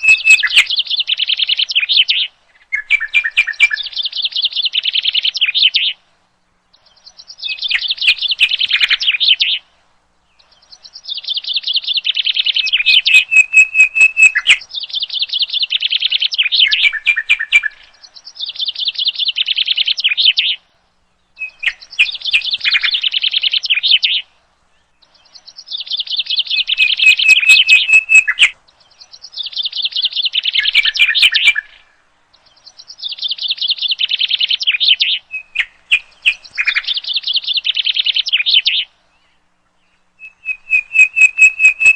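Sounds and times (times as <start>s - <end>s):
nightingale singing: 0.0s - 41.9s.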